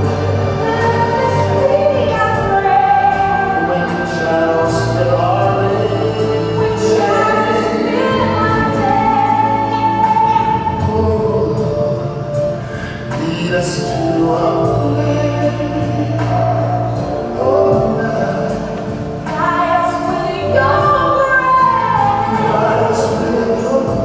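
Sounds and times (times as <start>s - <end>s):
gospel ballad with choir: 0.0s - 24.0s.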